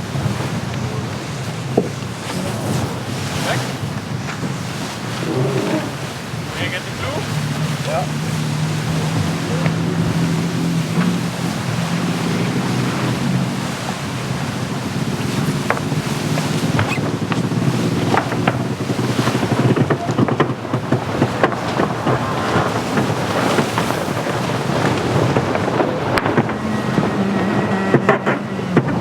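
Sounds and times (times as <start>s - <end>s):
water rushing along hull: 0.0s - 29.0s
wind buffeting microphone: 0.0s - 29.0s.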